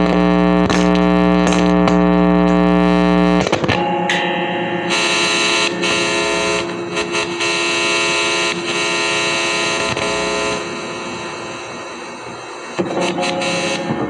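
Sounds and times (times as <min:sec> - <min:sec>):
buzzing electronic drone music: 0:00.0 - 0:14.0.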